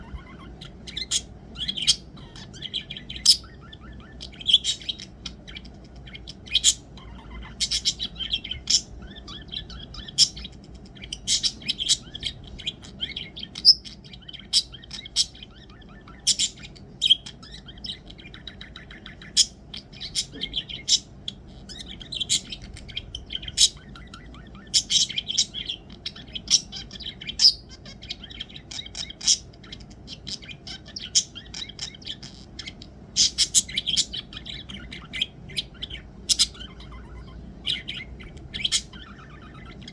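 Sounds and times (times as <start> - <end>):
budgerigar chirping and warbling: 0.0 - 39.9.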